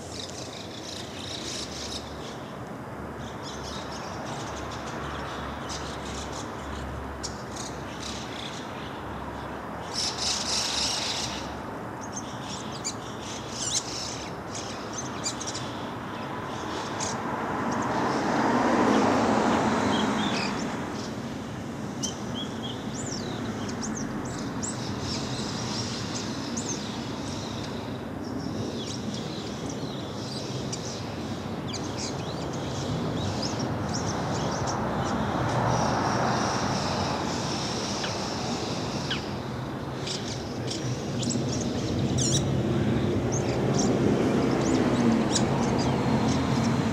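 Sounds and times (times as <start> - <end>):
steady background noise: 0.0 - 46.9.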